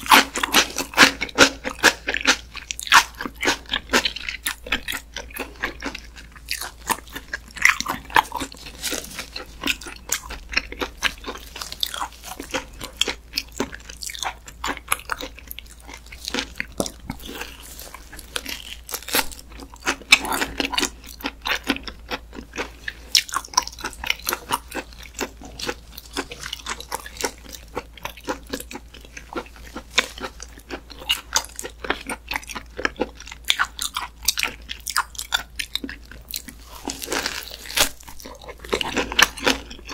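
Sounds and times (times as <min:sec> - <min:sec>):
chewing smacks and clicks: 0:00.0 - 0:39.9.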